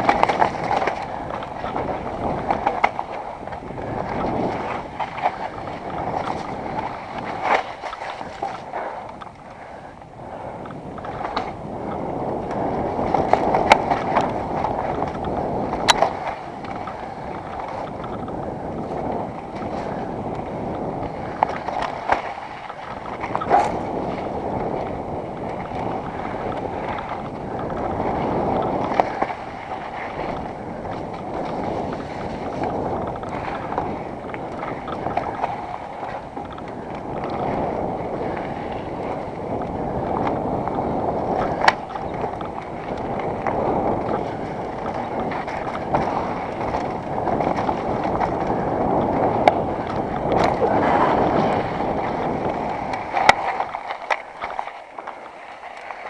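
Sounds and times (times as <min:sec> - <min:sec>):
bike knocking and rattling: 0:00.0 - 0:09.4, 0:10.6 - 0:55.2
wind rushing on microphone: 0:00.0 - 0:56.0.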